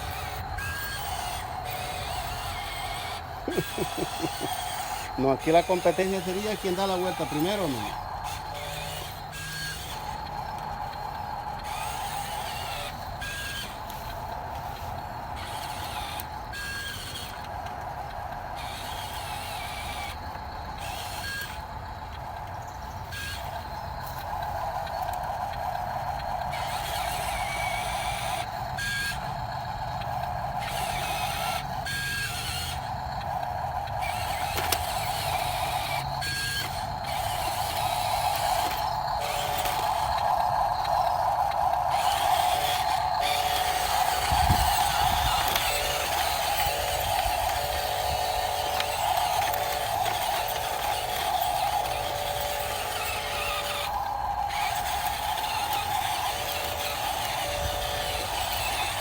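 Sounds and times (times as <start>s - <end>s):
truck motor whining: 0.0s - 59.0s.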